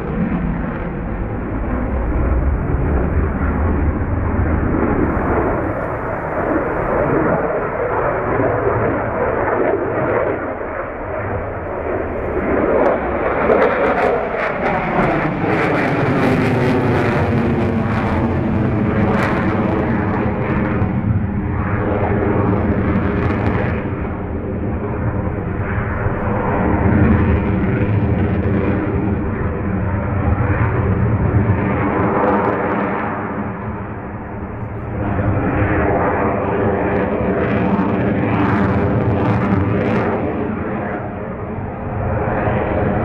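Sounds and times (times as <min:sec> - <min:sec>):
fighter jet engines roaring: 0:00.0 - 0:43.0.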